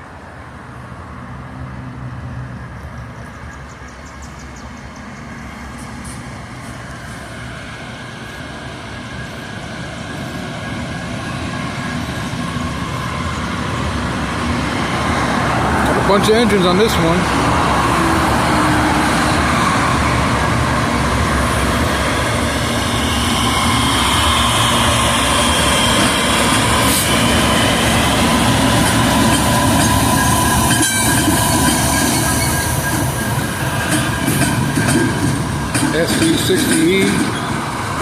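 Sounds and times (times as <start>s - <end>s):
wheels on rail: 1.8s - 38.0s
locomotive engine rumble: 5.1s - 38.0s.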